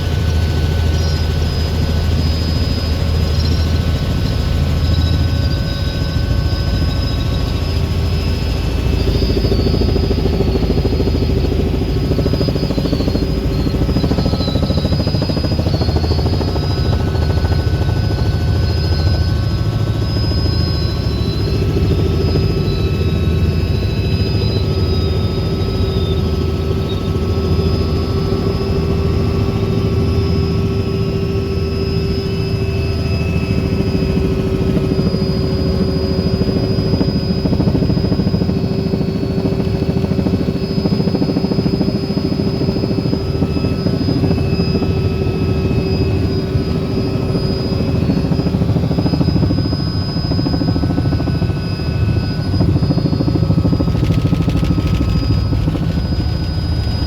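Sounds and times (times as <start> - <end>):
faint high whine: 0.0 - 57.0
helicopter rotor and engine drone: 0.0 - 57.0.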